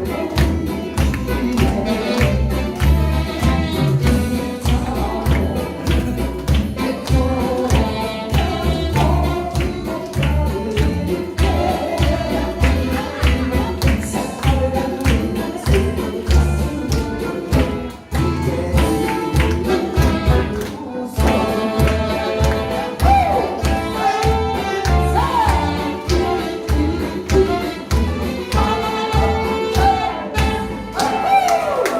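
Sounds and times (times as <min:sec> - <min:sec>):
steady drum beat: 0:00.0 - 0:20.6, 0:21.2 - 0:30.7
live band music: 0:00.0 - 0:31.9
person singing: 0:00.0 - 0:31.9.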